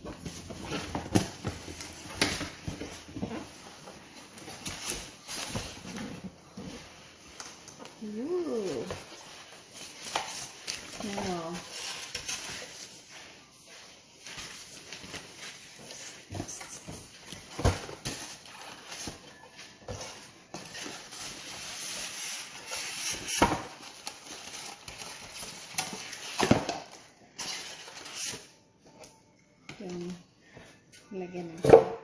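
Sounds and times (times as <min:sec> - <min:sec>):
plastic and cardboard rustling: 0:00.0 - 0:29.1.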